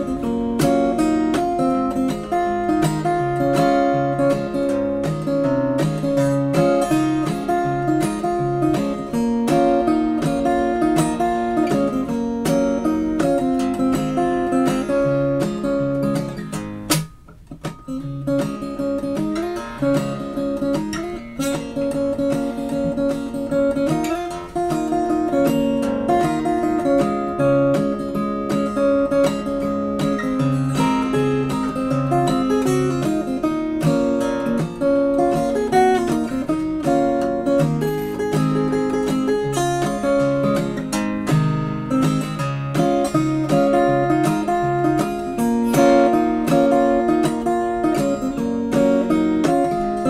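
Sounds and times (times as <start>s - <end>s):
acoustic guitar music: 0.0s - 50.0s.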